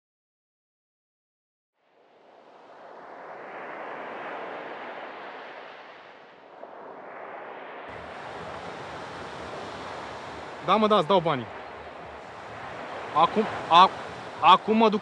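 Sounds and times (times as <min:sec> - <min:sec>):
sea surf washing: 0:01.9 - 0:15.0.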